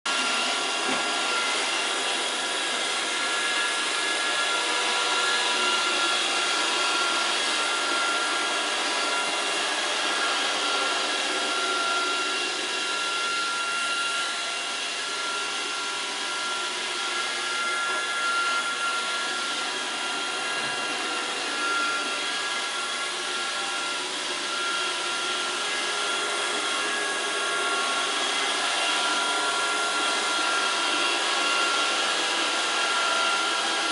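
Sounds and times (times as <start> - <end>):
robot vacuum whirring: 0.1 - 33.9.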